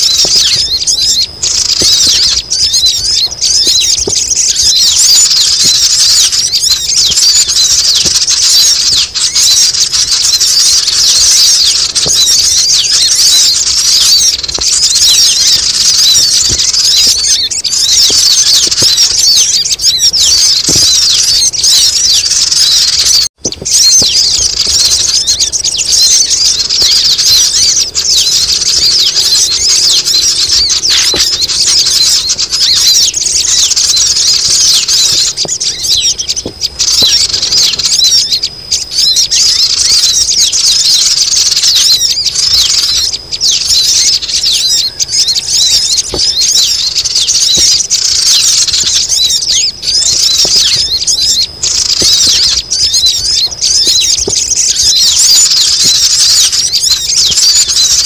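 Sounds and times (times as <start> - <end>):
chorus of small birds chirping: 0.0 - 58.0.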